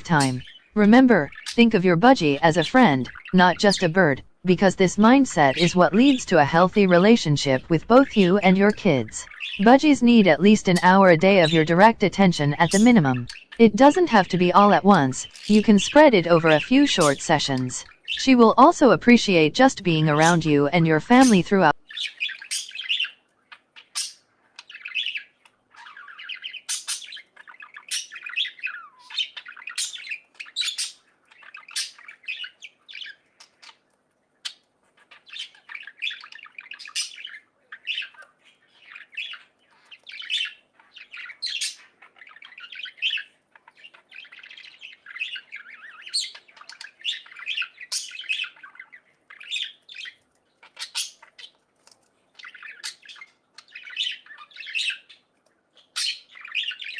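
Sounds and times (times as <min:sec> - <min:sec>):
budgerigars chirping and chattering: 0:00.0 - 0:51.6, 0:52.3 - 0:56.9.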